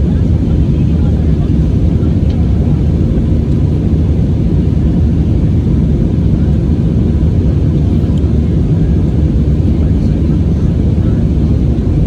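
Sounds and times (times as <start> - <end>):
aircraft engines rumbling in cabin: 0.0 - 12.0.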